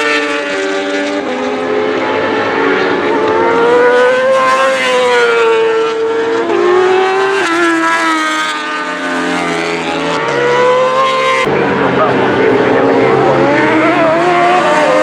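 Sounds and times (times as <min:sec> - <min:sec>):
racing motorbike engines revving: 0:00.0 - 0:15.0.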